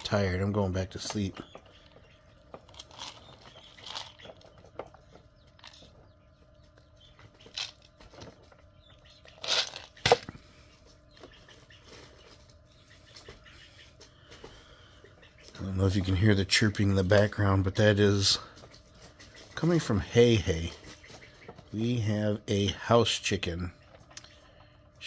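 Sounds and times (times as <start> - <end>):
chicken chirping: 0.0 - 25.0
faint hum: 0.0 - 25.0.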